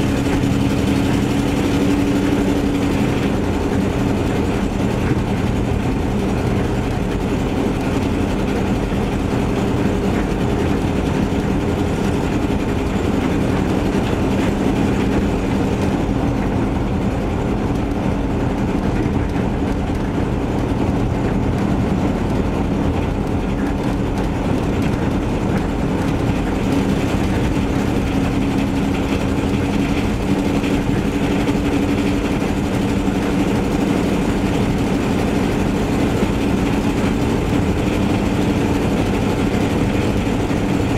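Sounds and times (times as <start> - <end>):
engine with leaking exhaust: 0.0 - 40.9.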